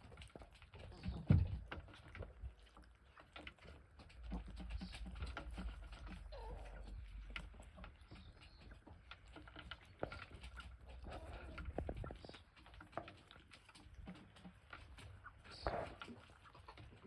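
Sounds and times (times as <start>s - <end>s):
chicken clucking: 0.0s - 17.0s
chickens tapping and scratching: 0.0s - 17.0s.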